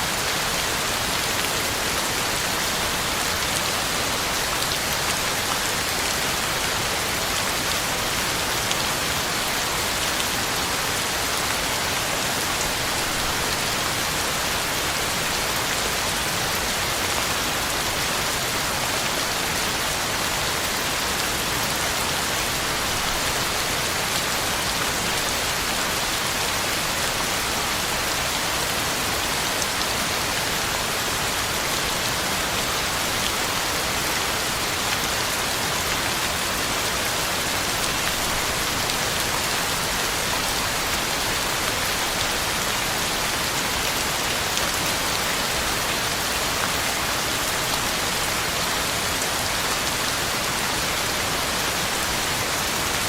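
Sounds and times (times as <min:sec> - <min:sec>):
heavy rain on ground and leaves: 0:00.0 - 0:53.0.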